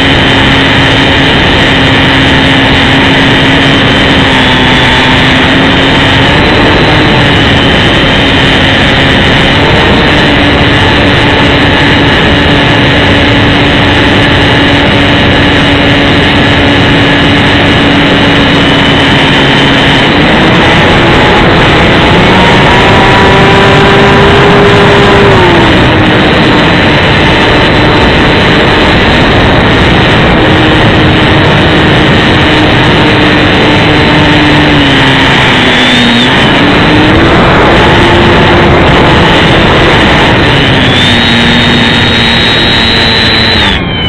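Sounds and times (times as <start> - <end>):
electric motor and propeller whine: 0.0 - 44.0
wind rush on microphone: 0.0 - 44.0.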